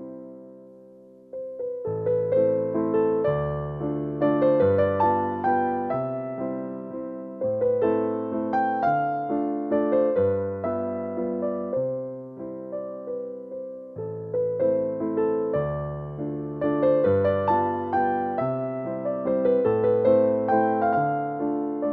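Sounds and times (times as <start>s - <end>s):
piano music: 0.0s - 21.9s.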